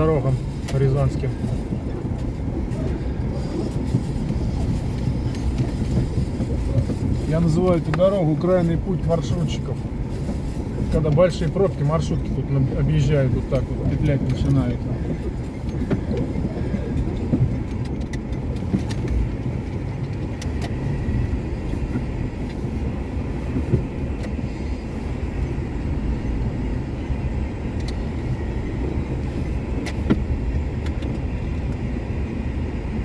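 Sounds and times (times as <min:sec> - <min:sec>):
tyre and engine rumble: 0:00.0 - 0:33.0.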